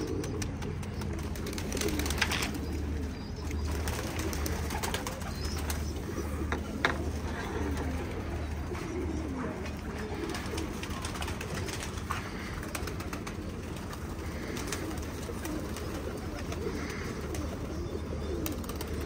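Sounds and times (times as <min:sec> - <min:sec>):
pigeons cooing: 0:00.0 - 0:19.0
steady low hum: 0:00.0 - 0:19.0
wings flapping: 0:00.0 - 0:19.0.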